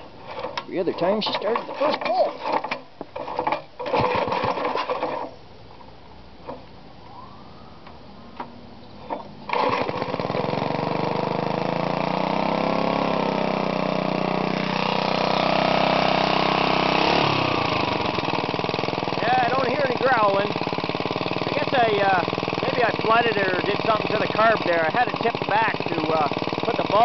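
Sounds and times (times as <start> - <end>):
small engine starting and revving: 1.2 - 5.4, 9.0 - 27.0.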